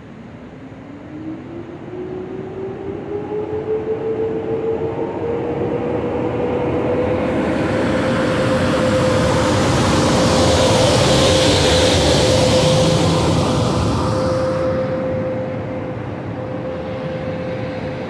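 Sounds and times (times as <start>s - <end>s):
electric locomotive whine: 0.0s - 18.0s.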